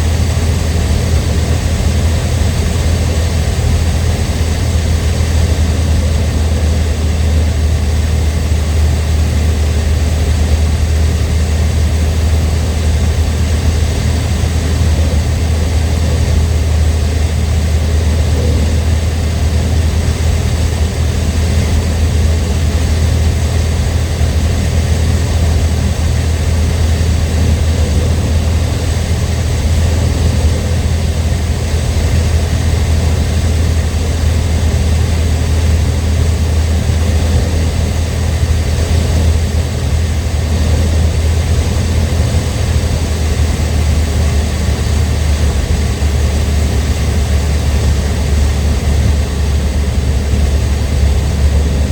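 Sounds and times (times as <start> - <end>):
propeller plane engine droning: 0.0 - 51.9
rushing air: 0.0 - 51.9.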